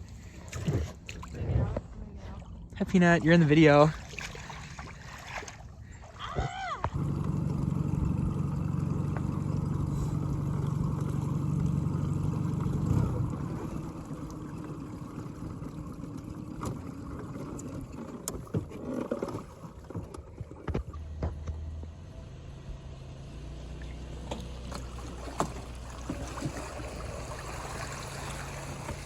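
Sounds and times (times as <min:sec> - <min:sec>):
water and hull noise: 0:00.0 - 0:22.4, 0:23.5 - 0:29.0
boat low rumble: 0:00.0 - 0:29.0.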